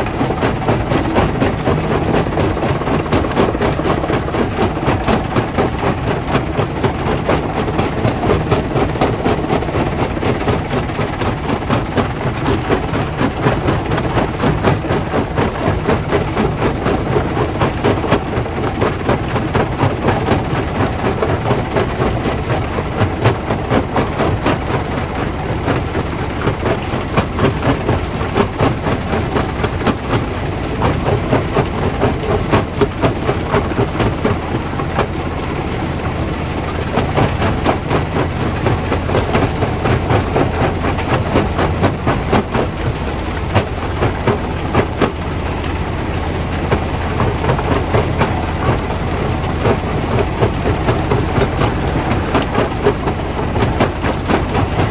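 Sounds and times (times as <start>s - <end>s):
crushing machinery humming: 0.0s - 54.9s.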